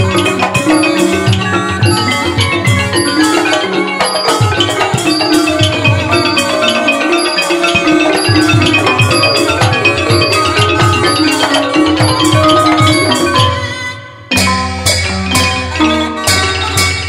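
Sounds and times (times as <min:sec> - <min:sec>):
xylophones and gong circles melody: 0:00.0 - 0:17.0.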